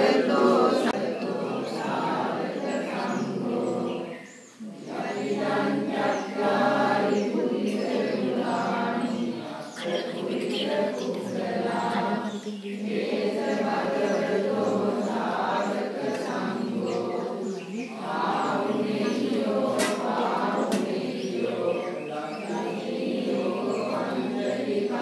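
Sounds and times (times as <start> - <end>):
group of voices chanting: 0.0 - 25.0.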